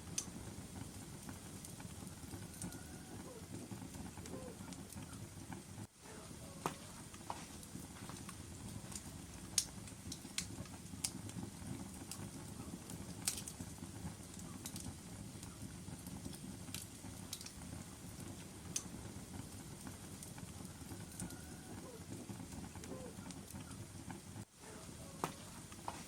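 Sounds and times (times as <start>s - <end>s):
fire crackles and pops: 0.0s - 26.0s
flames rumbling in fireplace: 0.0s - 26.0s.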